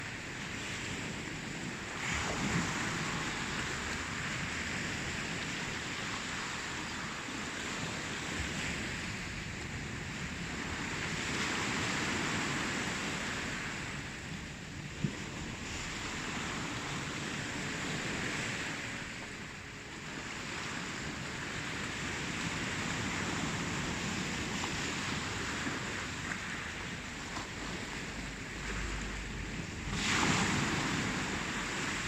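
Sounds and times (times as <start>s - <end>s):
ocean waves washing: 0.0s - 32.0s.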